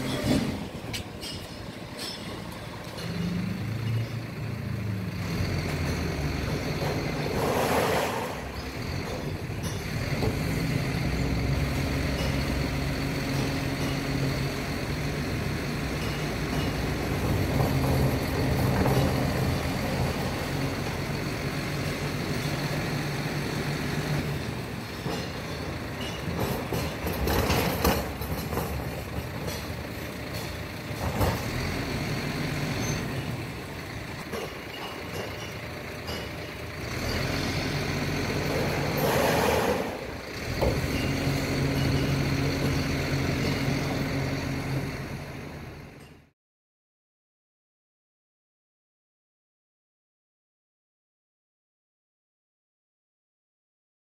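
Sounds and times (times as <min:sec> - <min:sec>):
truck engine running: 0:00.0 - 0:46.3.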